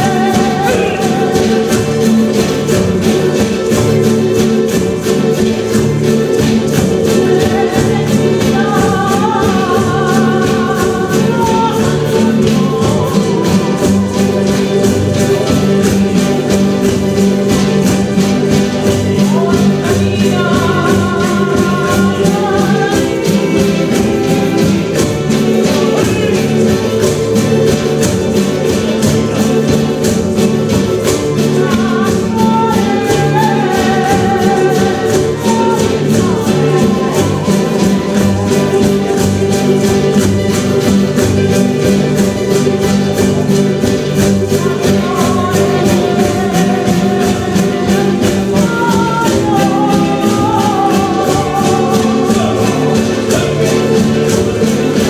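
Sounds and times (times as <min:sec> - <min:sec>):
sustained instrumental accompaniment: 0:00.0 - 0:55.0
woman singing a folk song: 0:00.0 - 0:55.0.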